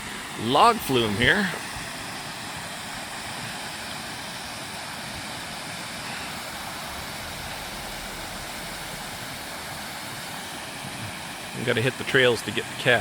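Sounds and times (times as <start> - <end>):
water rushing down a flume: 0.0 - 13.0.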